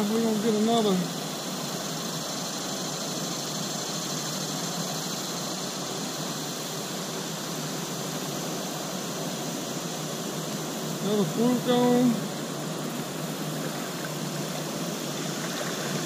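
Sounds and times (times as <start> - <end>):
river running over rapids: 0.0 - 16.0.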